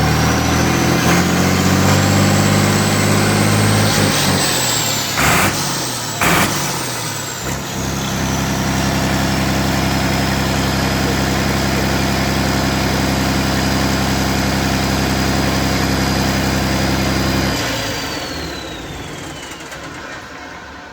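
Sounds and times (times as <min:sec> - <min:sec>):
diesel engine running: 0:00.0 - 0:20.9
turbocharger whine: 0:00.0 - 0:20.9.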